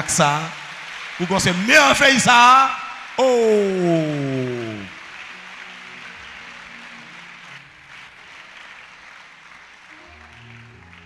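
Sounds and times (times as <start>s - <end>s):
congregation clapping: 0.0s - 11.0s
faint music: 0.0s - 11.0s.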